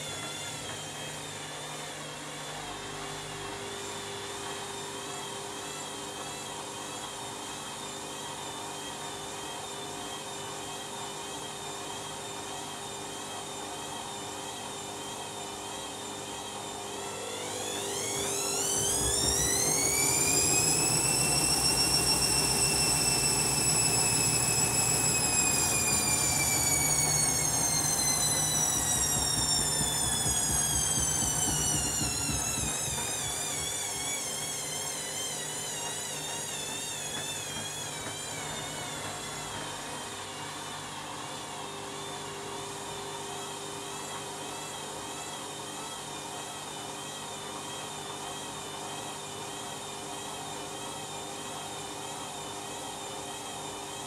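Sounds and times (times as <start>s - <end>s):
washing machine motor whine: 0.0s - 54.0s.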